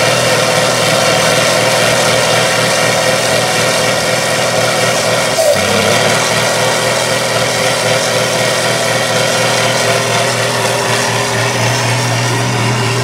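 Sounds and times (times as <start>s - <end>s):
truck engines running hard: 0.0s - 13.0s.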